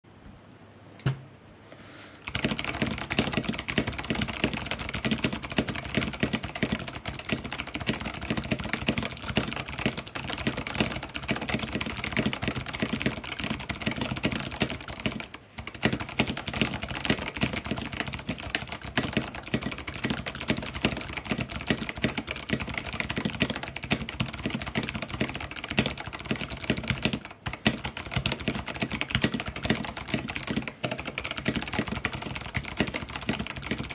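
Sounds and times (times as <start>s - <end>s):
clicky mechanical keyboard typing: 2.2s - 33.9s.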